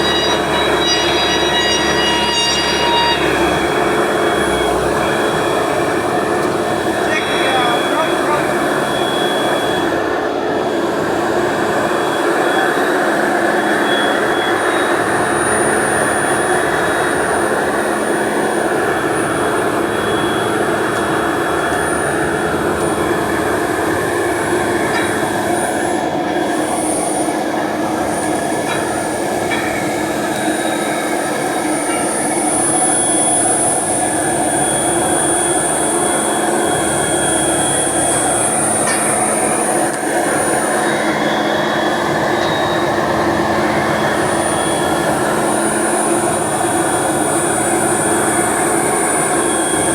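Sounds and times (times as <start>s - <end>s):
faint high whines: 0.0s - 49.9s
heavy machinery running: 0.0s - 49.9s.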